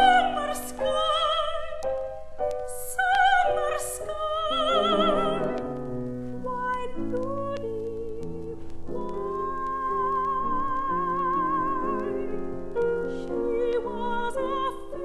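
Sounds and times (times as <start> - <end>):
piano accompaniment: 0.0 - 15.0
soprano singing with vibrato: 0.0 - 15.0.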